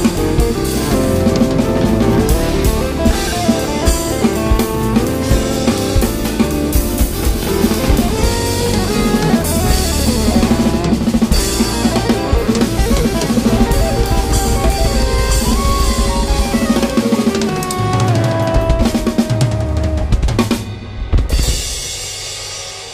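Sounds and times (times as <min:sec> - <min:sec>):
drum kit beat: 0:00.0 - 0:22.9.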